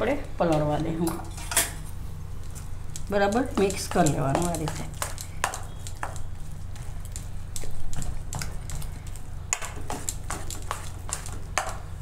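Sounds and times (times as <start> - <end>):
steady low hum: 0.0 - 12.0
wet squelches of batter: 2.3 - 12.0.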